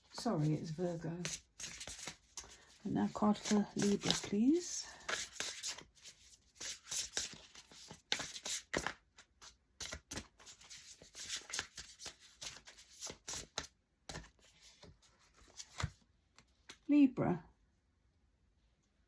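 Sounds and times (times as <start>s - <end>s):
cards being shuffled: 0.1s - 16.8s.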